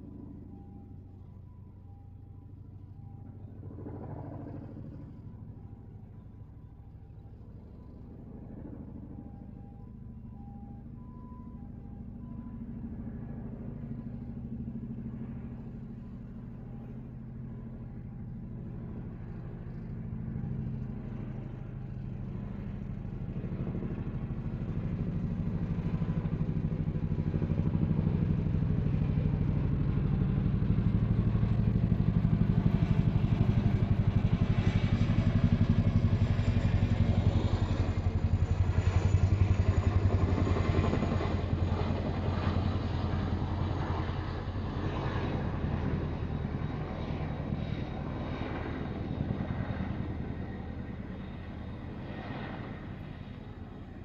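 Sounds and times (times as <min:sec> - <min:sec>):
engine drone approaching: 0:04.6 - 0:54.0.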